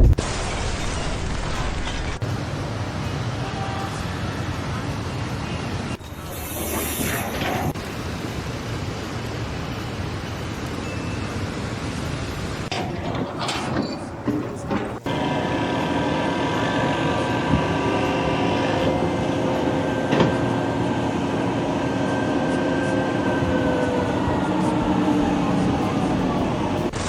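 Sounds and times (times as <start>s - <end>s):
heavy machinery rumbling: 0.0s - 27.0s
machinery whining tones: 0.0s - 27.0s.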